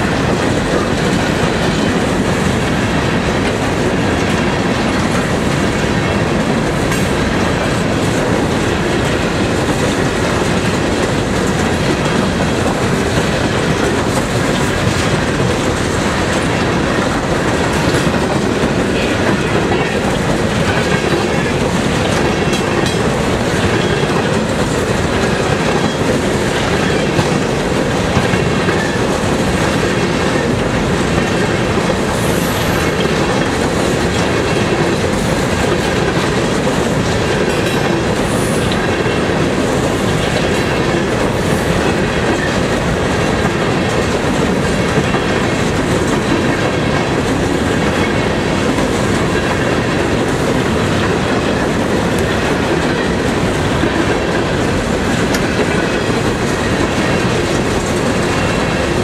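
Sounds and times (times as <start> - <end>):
freight train rumbling past: 0.0 - 59.0
wheels clicking over rail joints: 0.0 - 59.0.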